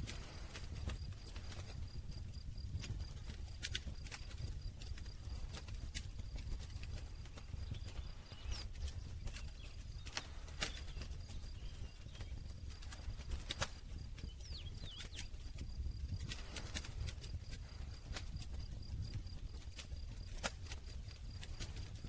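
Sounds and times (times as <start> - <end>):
low rumble of flames: 0.0 - 22.0.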